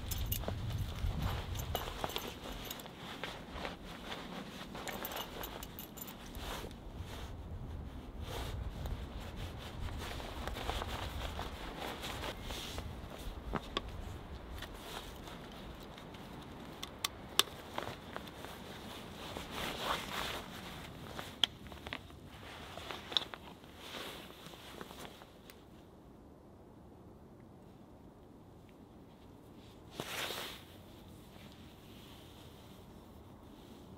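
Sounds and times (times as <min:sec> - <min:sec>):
clothing and leather rustling: 0:00.0 - 0:25.9, 0:29.0 - 0:33.9.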